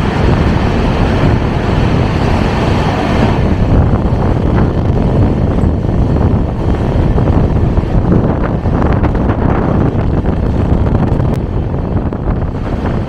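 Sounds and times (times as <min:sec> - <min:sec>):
train rumbling on track: 0:00.0 - 0:13.0
wind buffeting microphone: 0:00.0 - 0:13.0.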